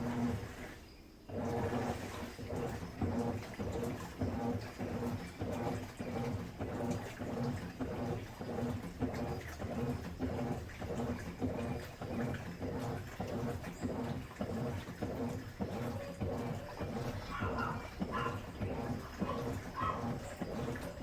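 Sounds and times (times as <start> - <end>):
washing machine motor hum: 0.0 - 21.0
water and clothes sloshing: 0.0 - 21.0.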